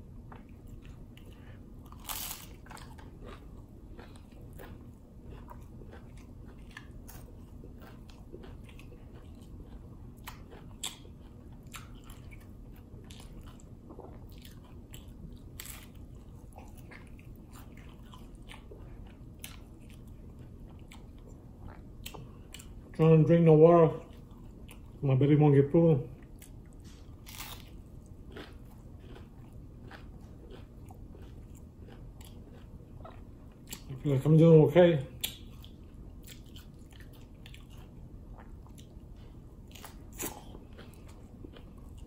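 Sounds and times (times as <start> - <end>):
man chewing crunchy tacos: 0.0 - 25.1, 25.7 - 42.0.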